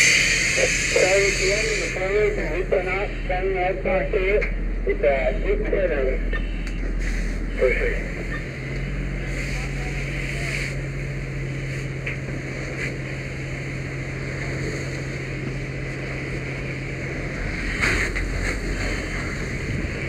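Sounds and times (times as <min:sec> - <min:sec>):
water spraying from fire hose: 0:00.0 - 0:04.3, 0:07.0 - 0:08.2, 0:08.9 - 0:20.0
low steady hum: 0:00.0 - 0:20.0.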